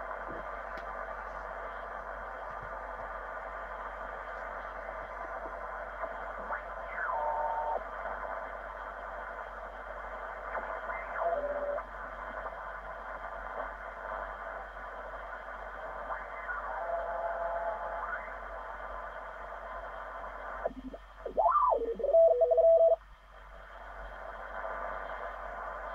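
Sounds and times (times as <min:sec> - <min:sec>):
radio band hiss: 0:00.0 - 0:25.9
steady radio tones: 0:00.0 - 0:25.9.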